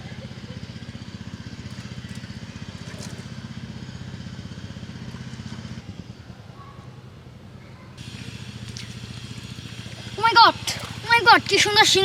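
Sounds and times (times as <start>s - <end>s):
small engine running: 0.0s - 6.6s, 8.0s - 12.0s.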